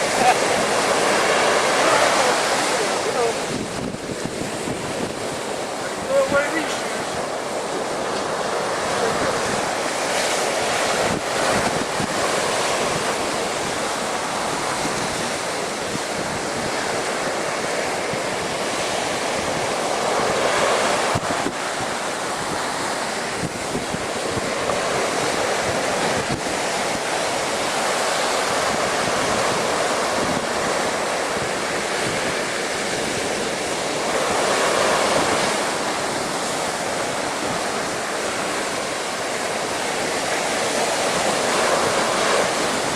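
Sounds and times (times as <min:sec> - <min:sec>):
surf breaking against a sea wall: 0:00.0 - 0:42.9
wind buffeting microphone: 0:00.0 - 0:42.9.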